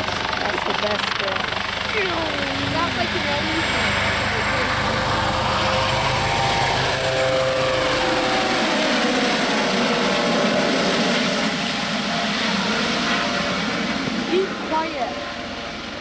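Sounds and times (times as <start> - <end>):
helicopter rotor and turbine noise: 0.0 - 16.0
high turbine whine: 0.0 - 16.0.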